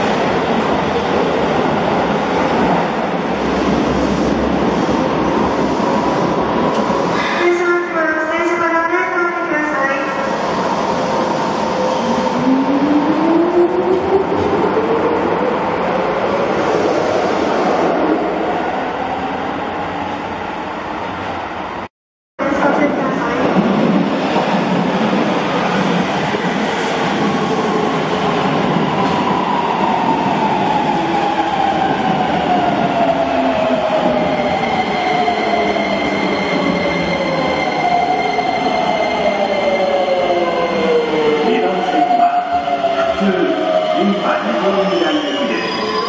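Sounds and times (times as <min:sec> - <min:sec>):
subway train rumbling: 0:00.0 - 0:46.0.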